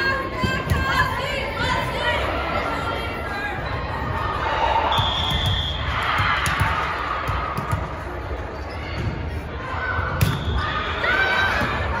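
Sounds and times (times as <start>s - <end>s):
voices echoing in a hall: 0.0s - 12.0s.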